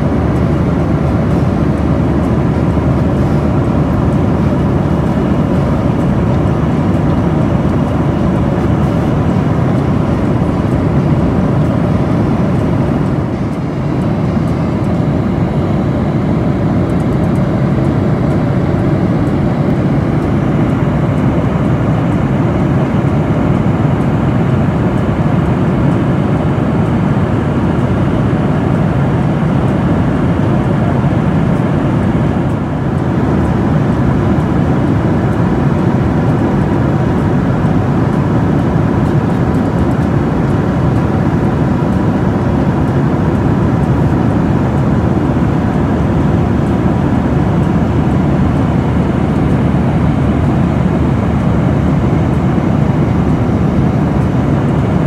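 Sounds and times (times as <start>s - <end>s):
jet engine rumble: 0.0s - 55.0s.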